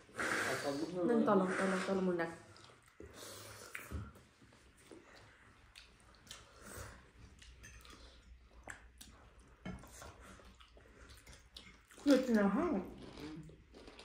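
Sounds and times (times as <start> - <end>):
chewing and eating: 2.4 - 14.0.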